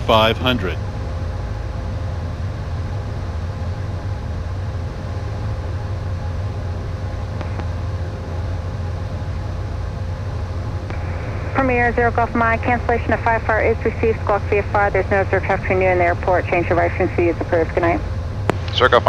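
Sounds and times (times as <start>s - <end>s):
faint steady hum: 0.0s - 19.0s
jet cockpit rumble: 0.0s - 19.0s.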